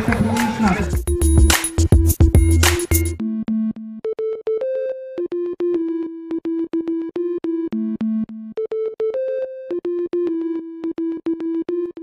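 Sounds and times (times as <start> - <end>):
electronic synthesizer melody: 0.8 - 12.0.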